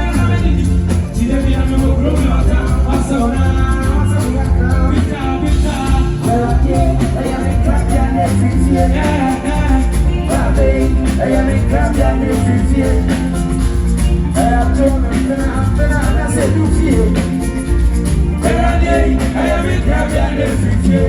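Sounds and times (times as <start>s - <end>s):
bass line: 0.0s - 21.0s
drums: 0.0s - 21.0s
live band playing: 0.0s - 21.0s
melodic lead line: 0.0s - 21.0s.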